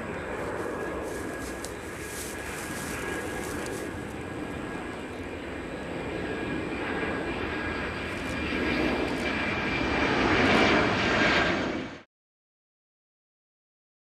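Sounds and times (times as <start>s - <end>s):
jet engines roaring with high whine: 0.0s - 12.1s.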